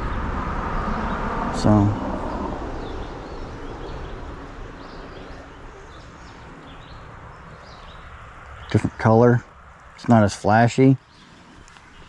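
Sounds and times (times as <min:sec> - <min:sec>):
birds chirping: 0:00.0 - 0:12.0
steady outdoor hiss: 0:00.0 - 0:12.0.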